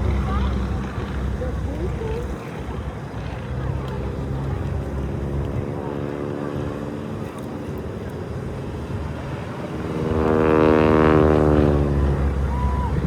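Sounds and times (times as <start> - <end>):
biplane engine drone: 0.0 - 13.0.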